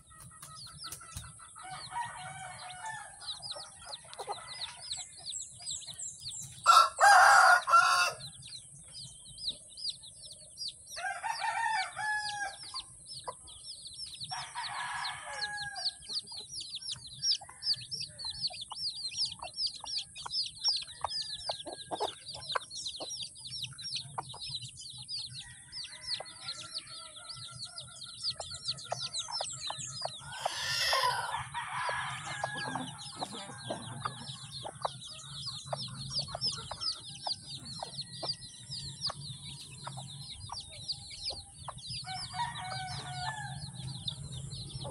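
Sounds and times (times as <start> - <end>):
adult chickens calling: 0.0 - 44.9
chicks peeping: 0.0 - 44.9.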